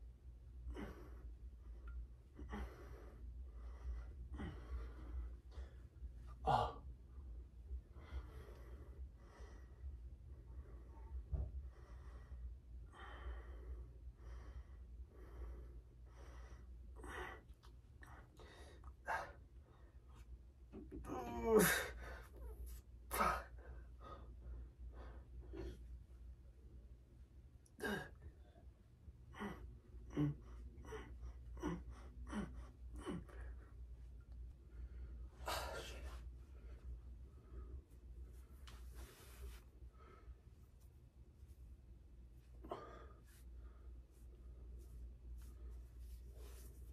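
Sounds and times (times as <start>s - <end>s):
low room hum: 0.0s - 46.9s
man breathing heavily: 0.5s - 20.3s, 21.5s - 26.0s, 27.7s - 40.9s, 42.4s - 46.9s.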